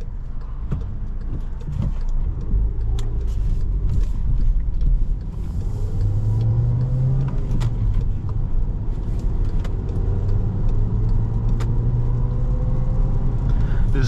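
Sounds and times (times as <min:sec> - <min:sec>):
car engine hum: 0:00.0 - 0:14.0
sharp clicks: 0:00.0 - 0:14.0.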